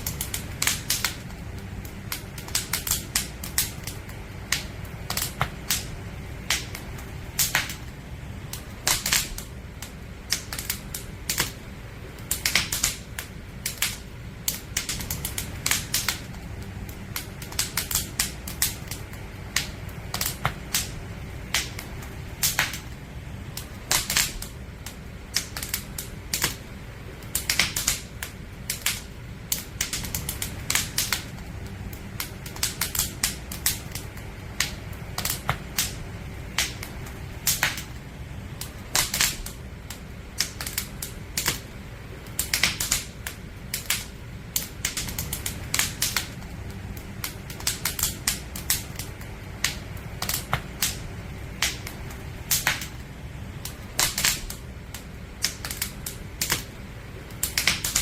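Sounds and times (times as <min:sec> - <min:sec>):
campfire crackling and popping: 0:00.0 - 0:58.0
low rumble of fire: 0:00.0 - 0:58.0.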